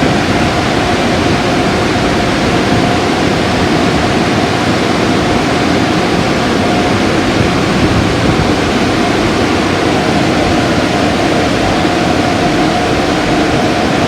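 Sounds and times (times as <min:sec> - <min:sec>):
car wash equipment rushing: 0:00.0 - 0:14.0.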